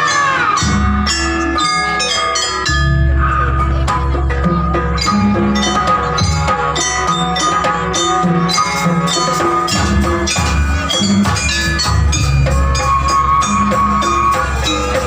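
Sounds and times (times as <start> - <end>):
bells ringing: 0.0 - 15.0
metallophone strikes: 0.0 - 15.0
drum beat: 0.6 - 15.0.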